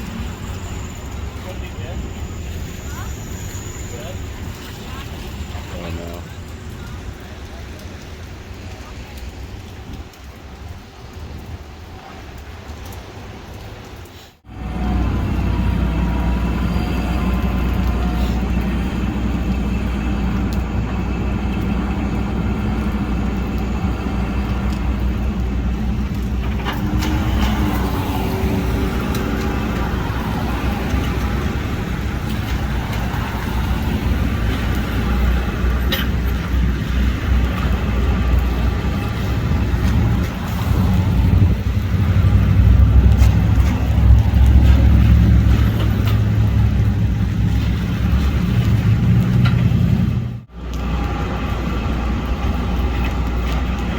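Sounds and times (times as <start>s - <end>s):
road traffic rumble: 0.0s - 53.9s.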